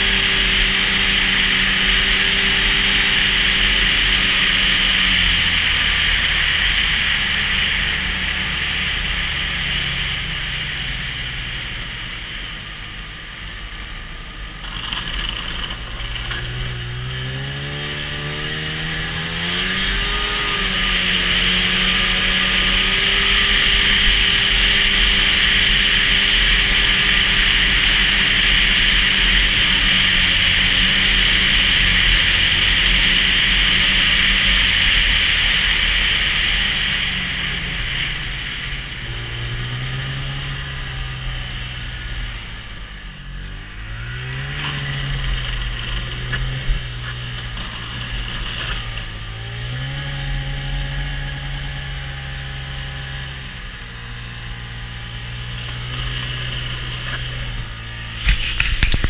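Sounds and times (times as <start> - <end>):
snowmobile engine: 0.0 - 59.0.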